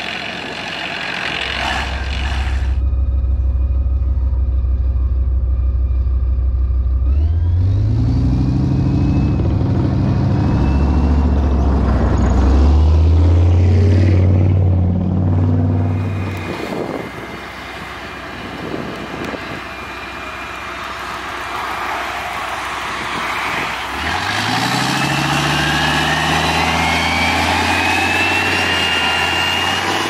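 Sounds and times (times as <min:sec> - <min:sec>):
tank diesel engine revving: 0:00.0 - 0:02.9, 0:06.7 - 0:30.0.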